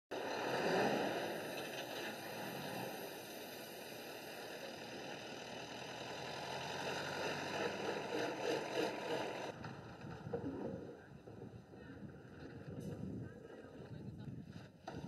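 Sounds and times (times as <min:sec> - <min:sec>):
trucks driving past: 0:00.1 - 0:13.2.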